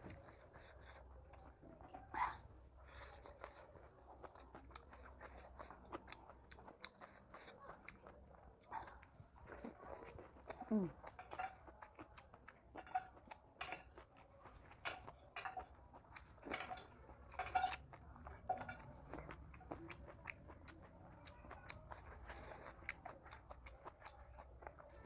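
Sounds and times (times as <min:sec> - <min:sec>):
person chewing and biting food: 0:02.8 - 0:25.0.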